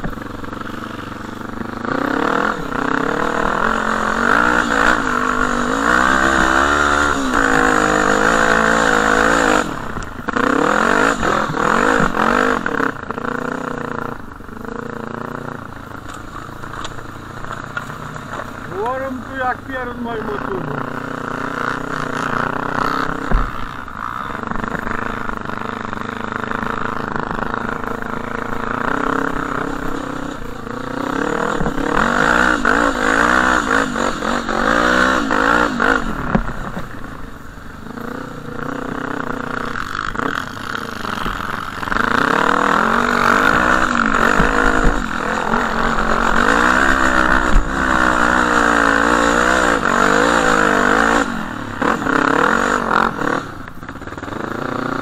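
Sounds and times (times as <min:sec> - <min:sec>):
off-road engine revving: 0:00.0 - 0:37.2, 0:37.8 - 0:55.0.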